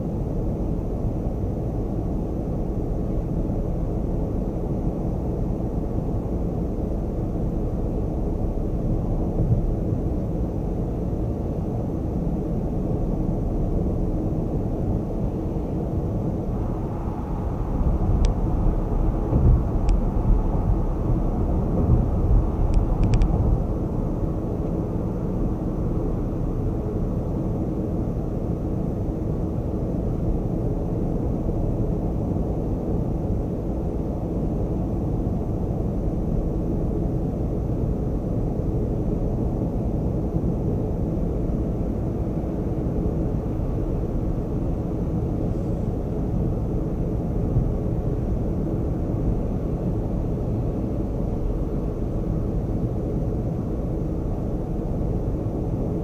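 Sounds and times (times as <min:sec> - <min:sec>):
car road and tyre noise: 0:00.0 - 0:56.0.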